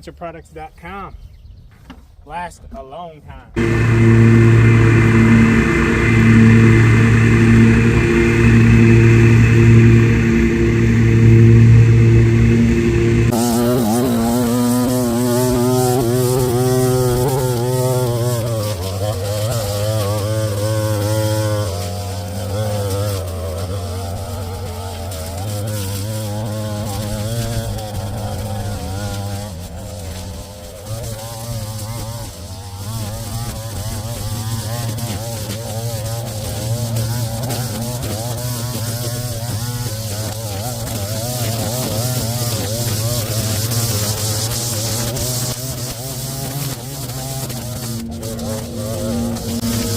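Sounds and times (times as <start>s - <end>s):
small petrol engine running: 3.6s - 49.9s.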